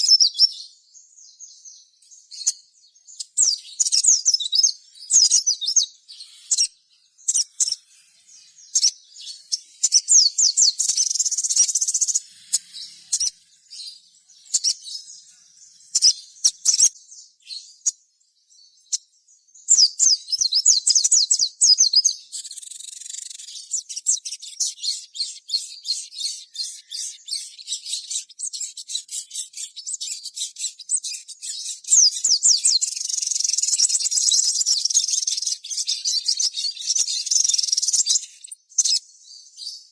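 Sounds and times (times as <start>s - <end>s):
bird chirps: 0.0s - 39.9s
bird twittering trills: 0.0s - 39.9s.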